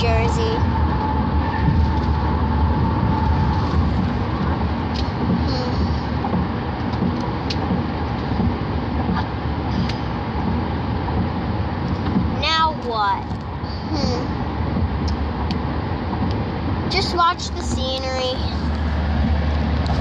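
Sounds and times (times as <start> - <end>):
car tyre and engine rumble: 0.0 - 20.0.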